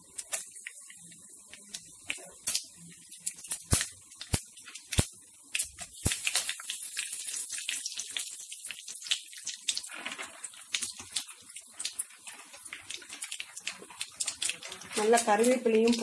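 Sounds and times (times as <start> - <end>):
oil spluttering sizzle: 0.0 - 16.0
seeds popping in hot oil: 0.0 - 16.0.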